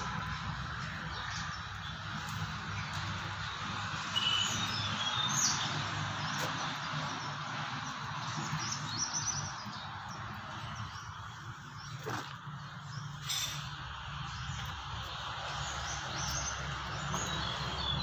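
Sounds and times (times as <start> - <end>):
birds chirping: 0.0 - 18.0
steady background noise: 0.0 - 18.0.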